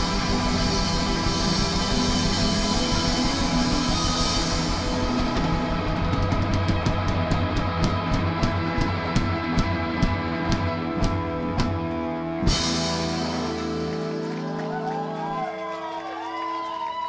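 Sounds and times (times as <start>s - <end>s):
drum kit beat: 0.0s - 15.2s
electric guitar chords: 0.0s - 16.8s.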